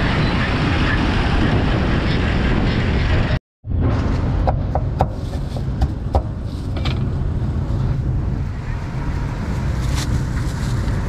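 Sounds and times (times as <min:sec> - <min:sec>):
low hum of street traffic: 0:00.0 - 0:11.0.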